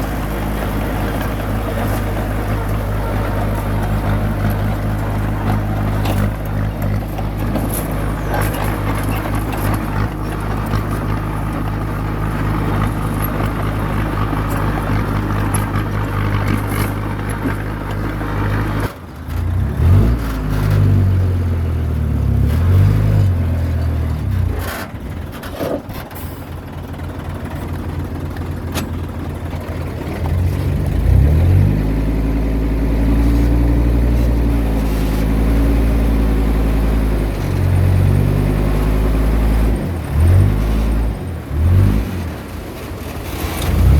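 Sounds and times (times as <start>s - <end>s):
bulldozer diesel engine: 0.0s - 43.9s.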